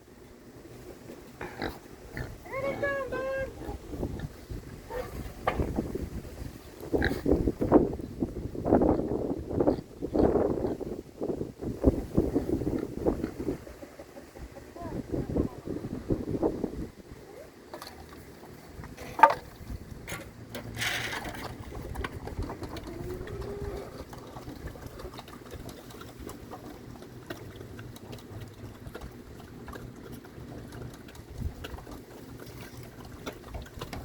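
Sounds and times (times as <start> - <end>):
pigs chewing and crunching food: 0.1 - 14.7, 15.4 - 34.0.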